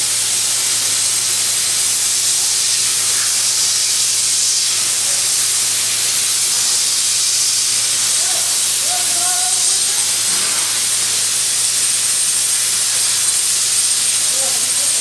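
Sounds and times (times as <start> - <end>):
plasma torch hissing: 0.0 - 15.0.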